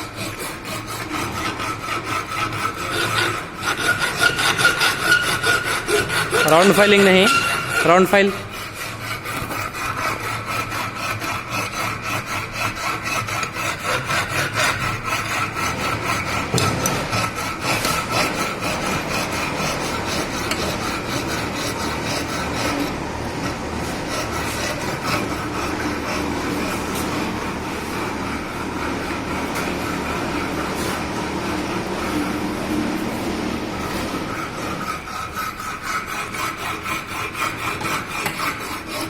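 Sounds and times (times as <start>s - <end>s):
file rasping on metal: 0.0s - 39.0s
grinding noise: 0.0s - 39.0s.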